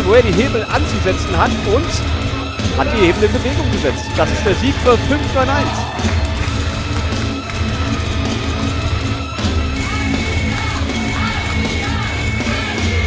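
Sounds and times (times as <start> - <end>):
vocals: 0.0 - 8.0, 9.6 - 13.0
heavy rock music: 0.0 - 13.0.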